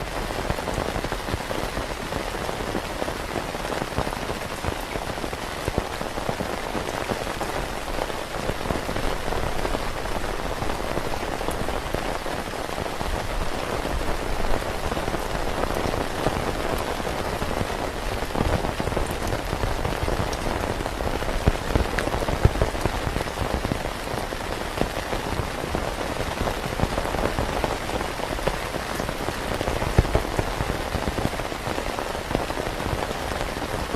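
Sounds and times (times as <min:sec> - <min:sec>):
rain on a tent: 0:00.0 - 0:33.9.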